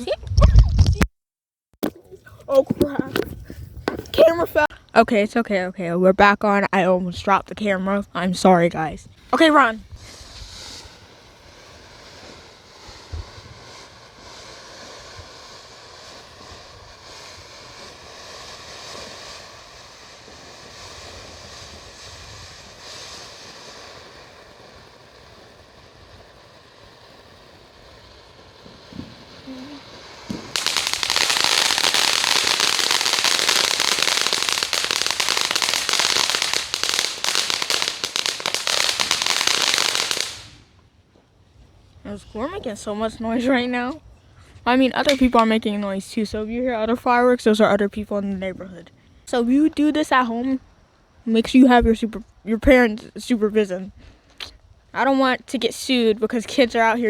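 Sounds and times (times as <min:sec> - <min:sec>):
ground firework hissing and crackling: 0:01.8 - 0:05.1, 0:07.5 - 0:57.0.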